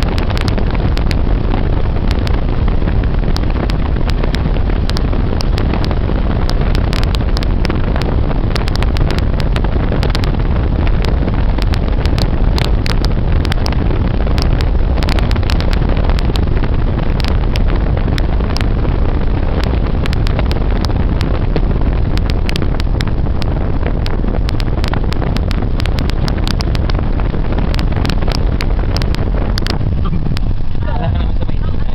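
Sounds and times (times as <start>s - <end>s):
road vehicle rumble: 0.0s - 31.9s
short crackles: 0.0s - 31.9s
wind buffeting microphone: 0.0s - 31.9s.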